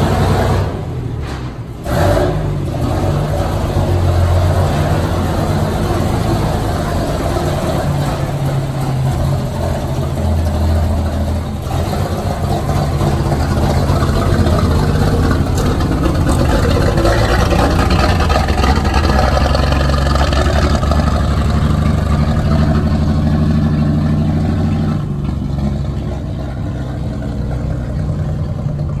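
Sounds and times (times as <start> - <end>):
fire truck engine running: 0.0 - 29.0.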